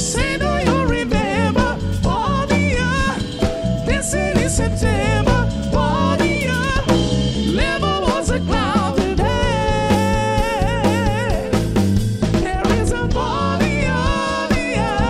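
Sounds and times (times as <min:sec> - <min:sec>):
person singing lead melody: 0:00.0 - 0:11.8, 0:12.4 - 0:15.0
drum kit beat: 0:00.0 - 0:15.0
funk band playing: 0:00.0 - 0:15.0.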